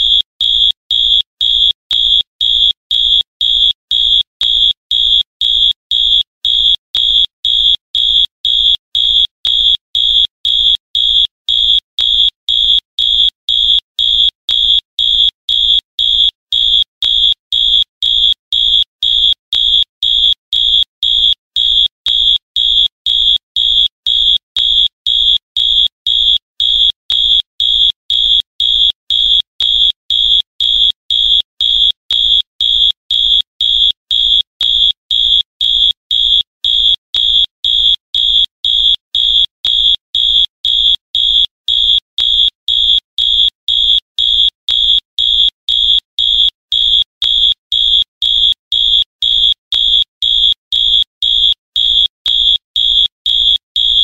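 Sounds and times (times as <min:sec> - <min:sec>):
fire alarm buzzing: 0:00.0 - 0:54.0.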